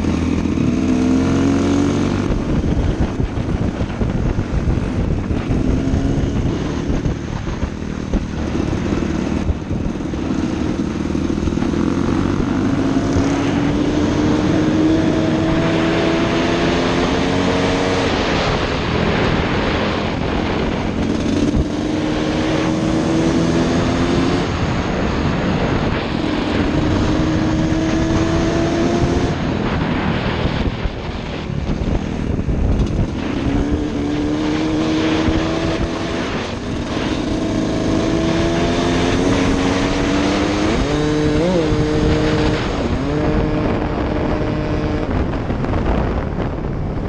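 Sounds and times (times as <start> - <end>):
dirt bike engine revving: 0.0 - 30.6, 31.7 - 45.8
wind rushing across microphone: 0.0 - 47.0.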